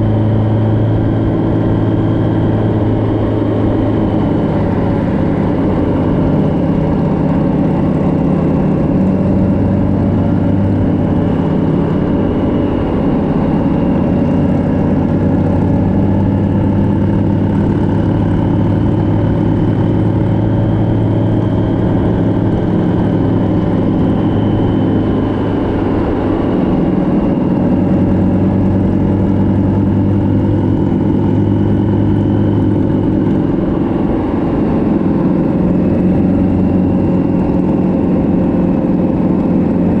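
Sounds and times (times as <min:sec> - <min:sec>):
motorcycle engine cruising: 0:00.0 - 0:40.0
wind and road noise: 0:00.0 - 0:40.0.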